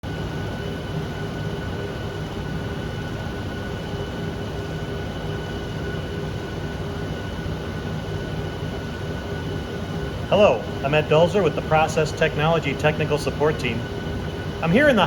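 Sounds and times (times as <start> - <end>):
machinery hum: 0.1 - 15.0.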